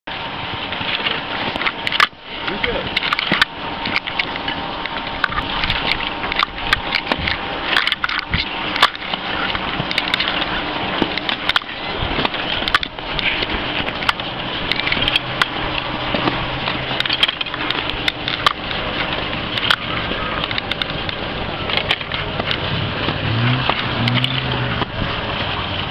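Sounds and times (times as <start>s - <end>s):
skis and boots clattering: 0.4s - 25.9s.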